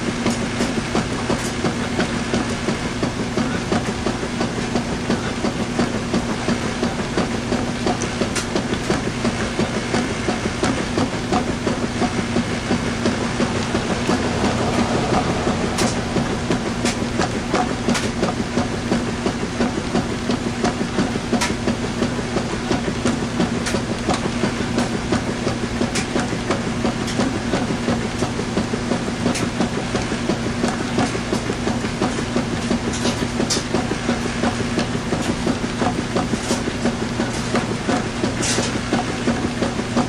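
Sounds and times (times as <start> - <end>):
motor hum: 0.0 - 40.0
washing machine churning: 0.0 - 40.0.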